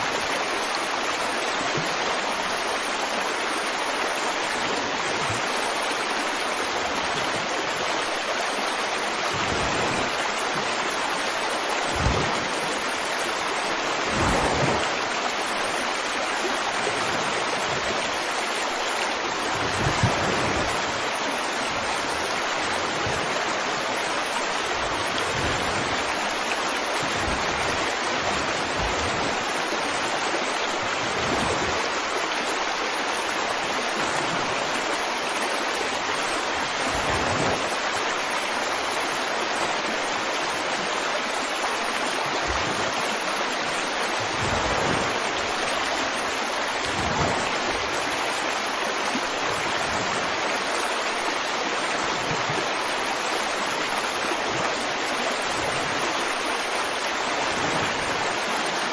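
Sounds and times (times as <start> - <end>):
deep water splashes: 0.0 - 58.9
running water: 0.0 - 58.9.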